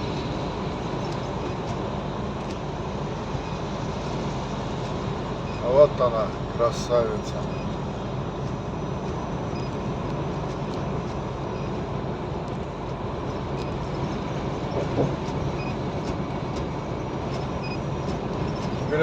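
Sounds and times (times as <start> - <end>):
truck engine drone: 0.0 - 19.0
tyre and road noise: 0.0 - 19.0.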